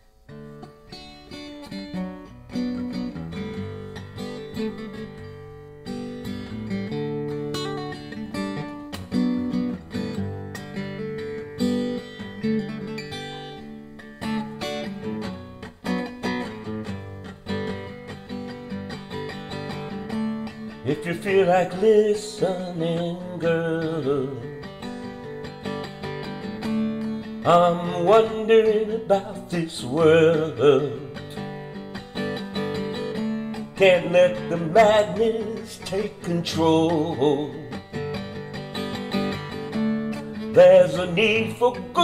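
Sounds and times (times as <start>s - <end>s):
acoustic guitar strumming chords: 0.0s - 42.0s.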